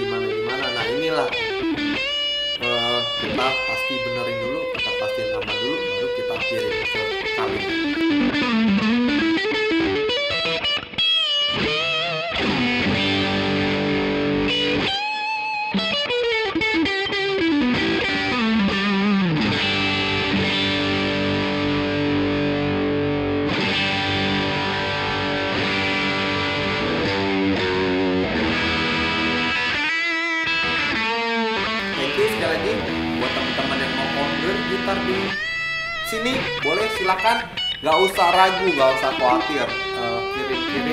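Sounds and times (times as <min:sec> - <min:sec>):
electric guitar playing: 0:00.0 - 0:40.9.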